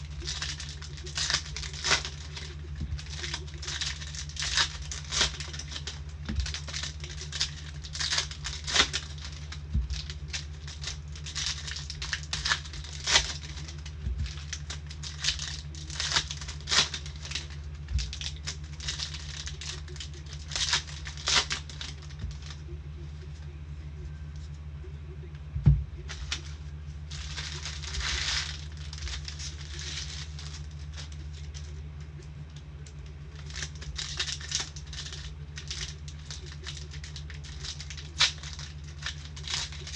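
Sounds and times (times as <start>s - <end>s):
card packs crinkling and rustling: 0.0s - 23.6s, 26.0s - 39.9s
steady low hum: 0.0s - 39.9s.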